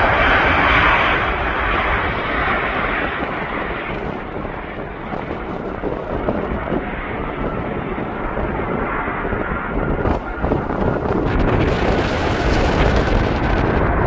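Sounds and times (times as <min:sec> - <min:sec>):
aircraft engine rushing: 0:00.0 - 0:14.0
wind buffeting microphone: 0:00.0 - 0:14.0.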